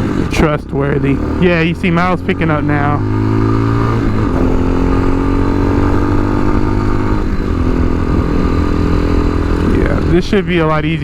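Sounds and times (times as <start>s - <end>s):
motorcycle engine running: 1.4s - 10.4s.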